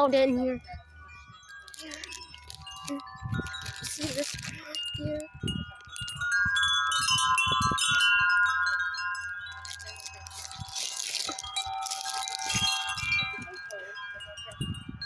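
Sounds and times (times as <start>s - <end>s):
metal wind chime ringing: 0.0s - 15.0s.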